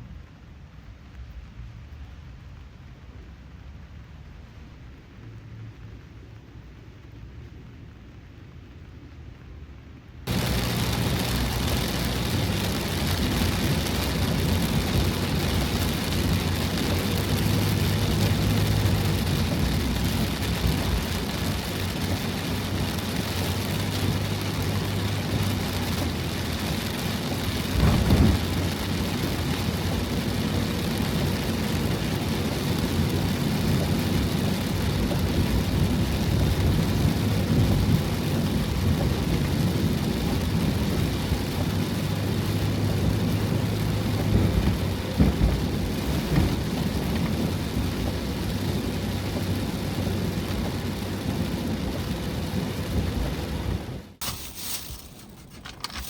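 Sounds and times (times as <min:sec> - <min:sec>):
heavy rain on a van roof: 0:00.0 - 0:54.8
deep constant rumble: 0:00.0 - 0:56.0.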